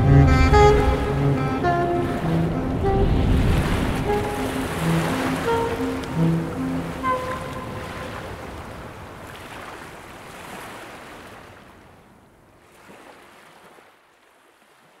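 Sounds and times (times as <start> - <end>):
ocean waves washing in: 0.0 - 13.9.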